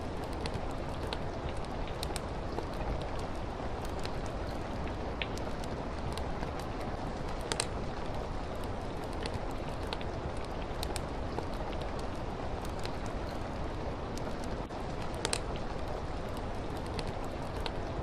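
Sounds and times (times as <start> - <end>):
rain hiss: 0.0 - 18.0
wood fire crackling and popping: 0.0 - 18.0.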